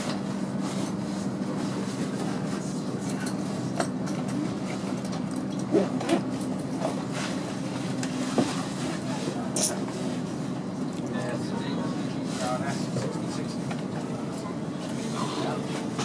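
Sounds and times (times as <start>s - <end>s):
train rumbling at speed: 0.0s - 16.0s.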